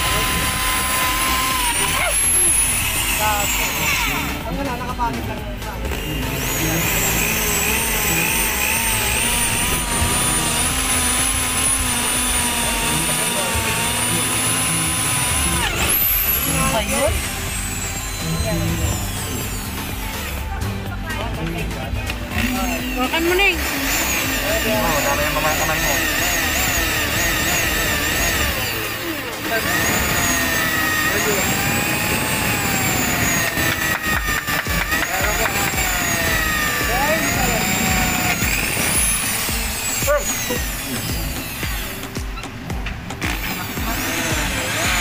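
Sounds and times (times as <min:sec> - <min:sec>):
electric drill whining under load: 0:00.0 - 0:45.0.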